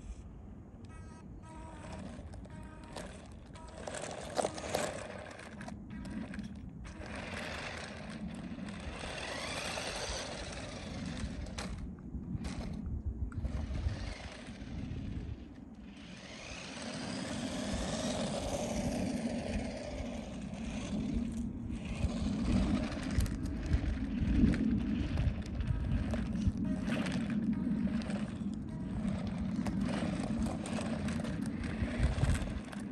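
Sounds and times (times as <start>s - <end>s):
remote-control car motor whining: 0.8s - 32.9s.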